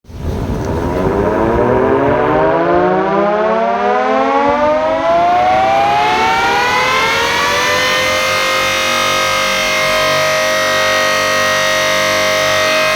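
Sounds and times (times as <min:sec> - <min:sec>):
electric motor siren winding up: 0:00.9 - 0:12.9.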